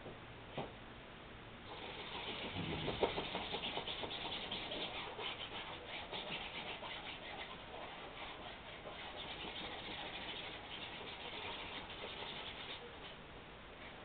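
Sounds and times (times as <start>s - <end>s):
drawing tool scratching canvas: 1.7s - 13.2s.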